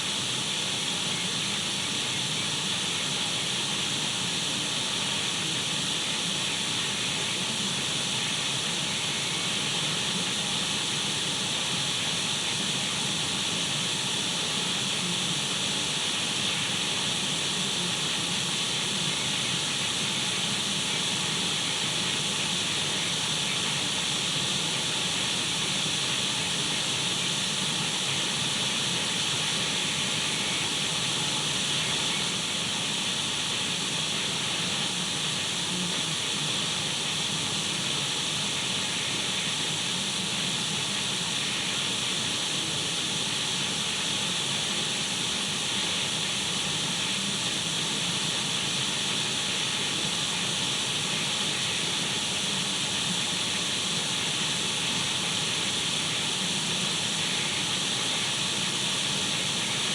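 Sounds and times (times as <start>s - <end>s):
radio static hiss: 0.0s - 59.9s.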